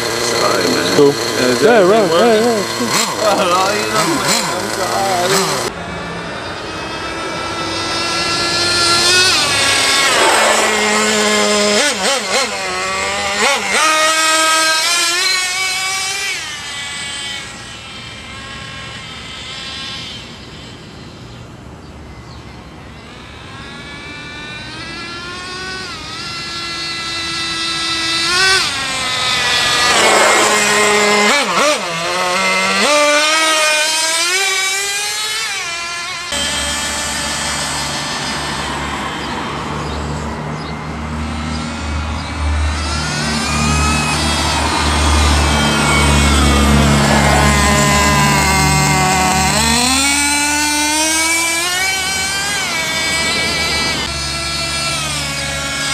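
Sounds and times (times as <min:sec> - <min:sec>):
rc truck engine screaming: 0:00.0 - 0:55.9.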